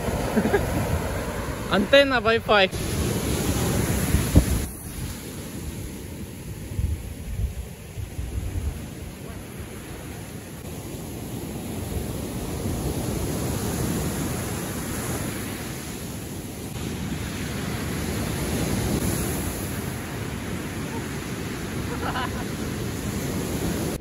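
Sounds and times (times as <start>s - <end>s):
wind rumbling on microphone: 0.0s - 2.1s, 2.8s - 24.0s
surf breaking on beach: 0.0s - 24.0s.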